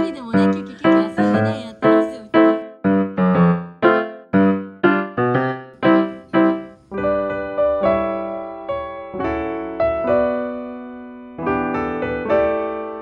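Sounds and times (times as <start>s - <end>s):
keyboard chords: 0.0s - 13.0s.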